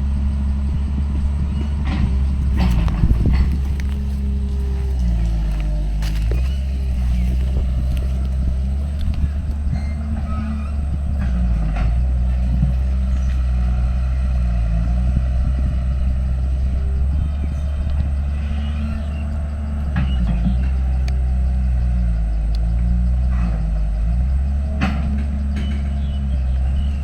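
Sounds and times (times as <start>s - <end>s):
heavy machinery diesel engine: 0.0s - 27.0s.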